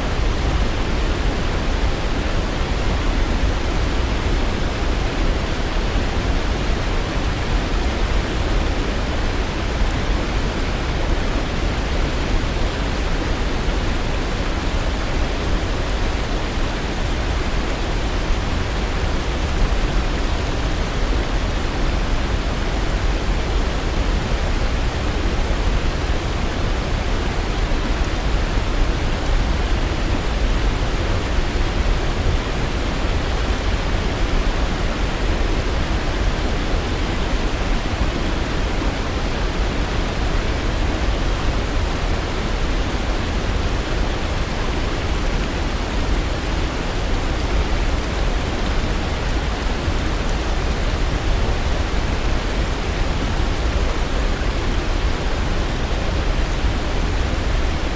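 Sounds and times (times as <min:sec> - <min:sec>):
waterfall rushing: 0:09.0 - 0:57.9.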